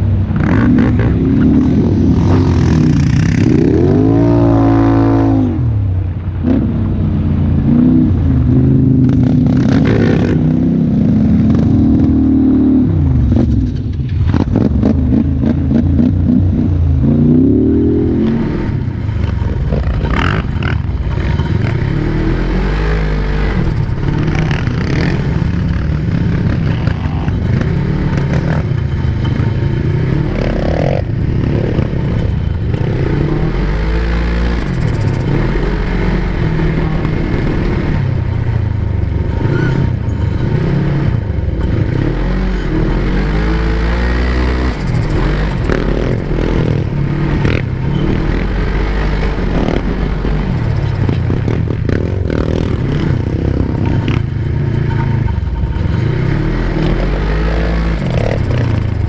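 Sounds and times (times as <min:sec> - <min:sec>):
quad bike engine revving: 0:00.0 - 0:05.8, 0:07.6 - 0:59.0.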